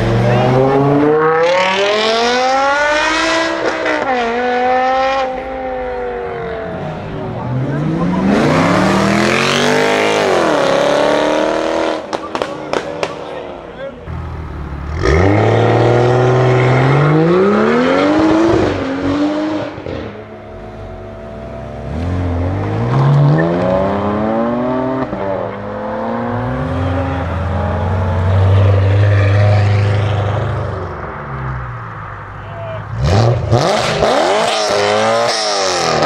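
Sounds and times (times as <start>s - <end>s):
car engine accelerating hard: 0.0s - 12.9s, 14.1s - 31.6s, 32.9s - 36.0s.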